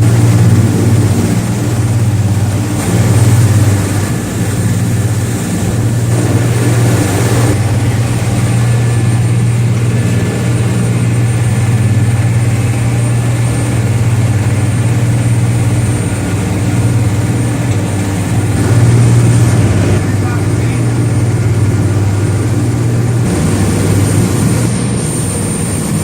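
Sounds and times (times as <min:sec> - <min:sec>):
boat engine low drone: 0:00.0 - 0:26.0.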